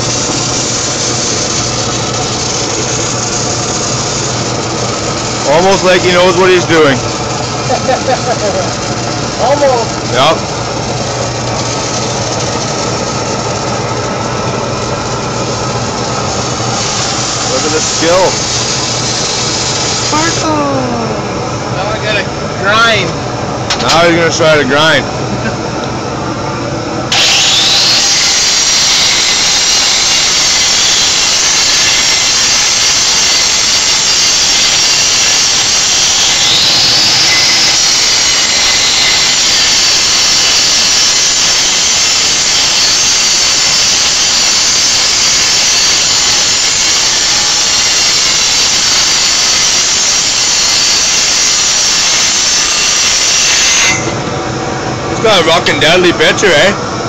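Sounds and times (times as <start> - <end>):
angle grinder grinding metal: 0.0 - 21.2, 27.1 - 54.3.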